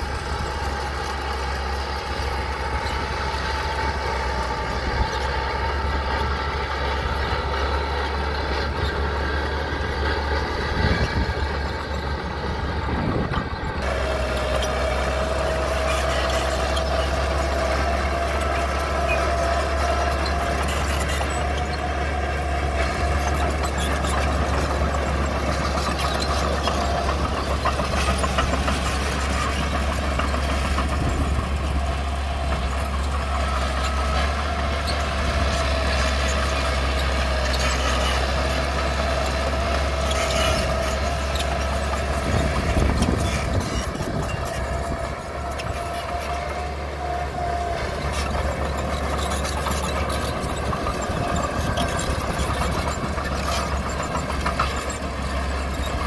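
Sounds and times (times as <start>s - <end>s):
machinery engine running: 0.0s - 56.0s.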